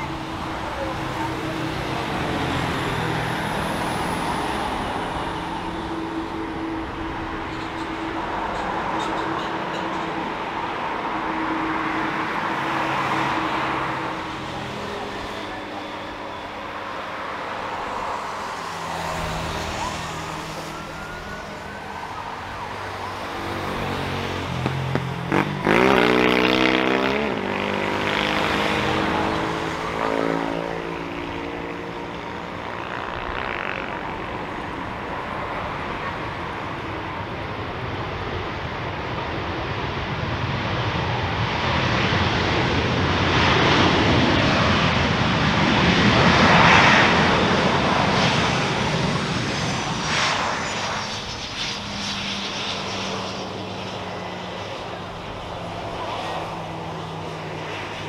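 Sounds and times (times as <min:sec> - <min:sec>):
jet engine rushing roar: 0:00.0 - 0:58.0
jet engine whine: 0:00.0 - 0:58.0.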